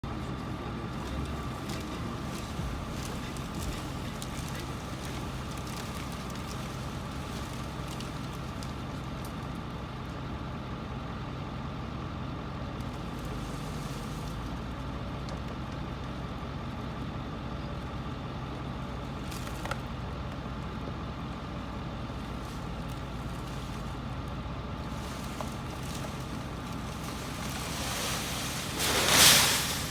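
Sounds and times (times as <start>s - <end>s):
engine running steadily: 0.0s - 29.9s.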